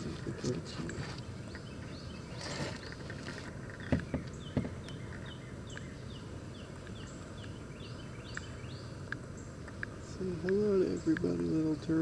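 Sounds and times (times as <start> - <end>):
outdoor background: 0.0 - 12.0.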